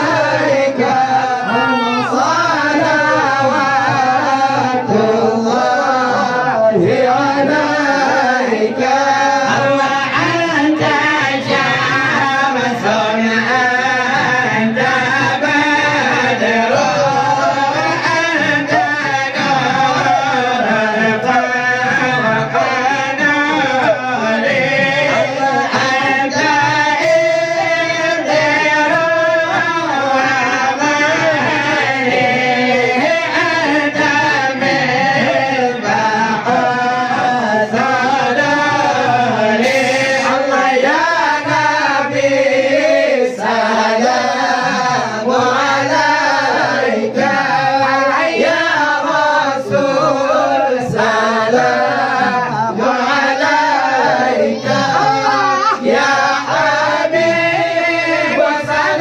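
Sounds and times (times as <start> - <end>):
men chanting together: 0.0 - 59.0
voice singing into microphone: 0.0 - 59.0.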